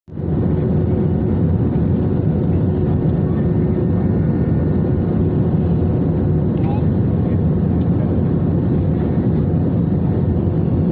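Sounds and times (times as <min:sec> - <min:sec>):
airliner cabin roar: 0:00.2 - 0:10.9.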